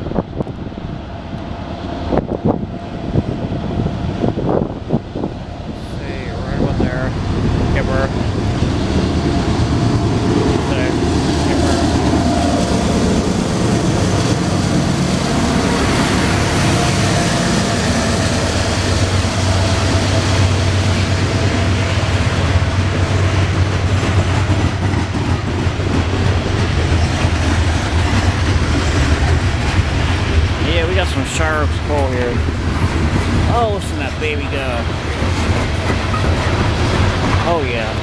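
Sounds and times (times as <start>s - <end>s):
diesel locomotives passing: 0.0s - 38.0s
freight cars rumbling by: 0.0s - 38.0s.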